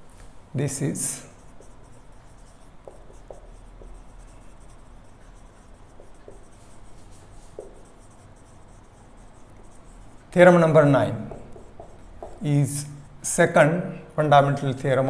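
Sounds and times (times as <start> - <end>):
marker scratching on whiteboard: 0.6 - 13.5.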